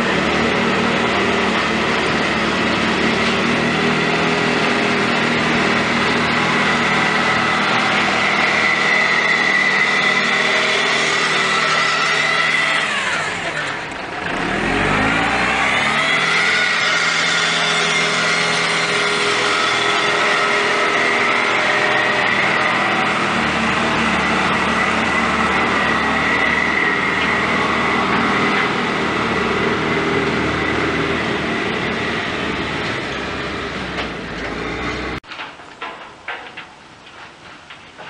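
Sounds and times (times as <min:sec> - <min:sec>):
heavy machinery engine: 0:00.0 - 0:38.0.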